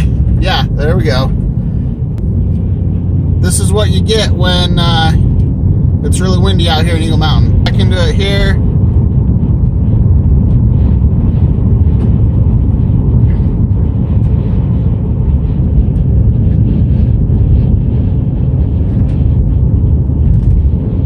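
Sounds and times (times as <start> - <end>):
road noise: 0.0 - 21.0
wind buffeting car: 0.0 - 21.0.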